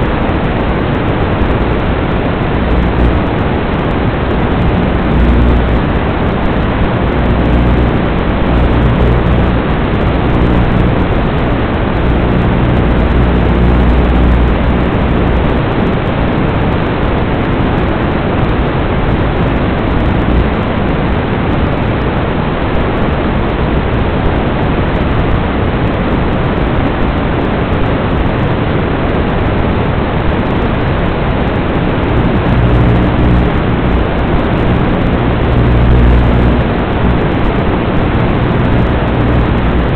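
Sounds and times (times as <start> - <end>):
low hum: 0.0 - 22.3, 24.6 - 39.9
loud steady rushing hiss: 0.0 - 39.9.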